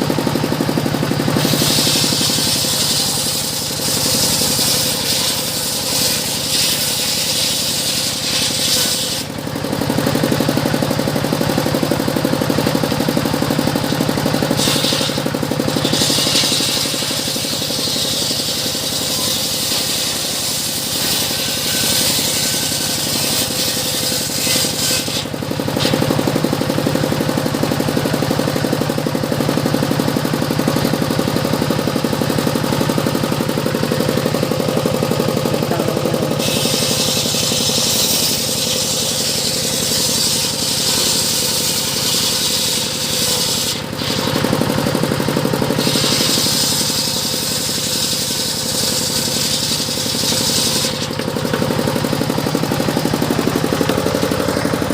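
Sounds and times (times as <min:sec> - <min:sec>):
saw drive humming: 0:00.0 - 0:54.9
circular saw blade cutting wood: 0:00.7 - 0:09.6, 0:12.7 - 0:28.2, 0:31.7 - 0:45.0, 0:45.6 - 0:54.9.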